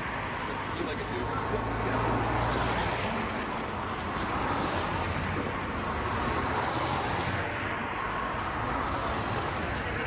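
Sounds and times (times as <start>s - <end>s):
street noise: 0.0s - 10.0s
traffic engine rumble: 0.0s - 10.0s.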